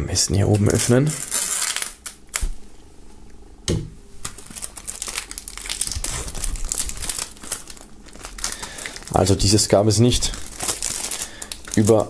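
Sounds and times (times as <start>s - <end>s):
plastic wrap crinkling and tearing: 0.4s - 2.6s, 4.2s - 12.0s.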